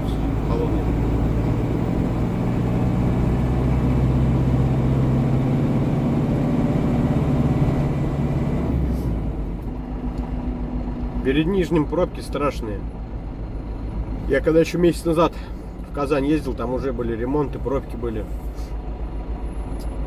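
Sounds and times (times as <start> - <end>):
truck diesel engine running: 0.0 - 20.0.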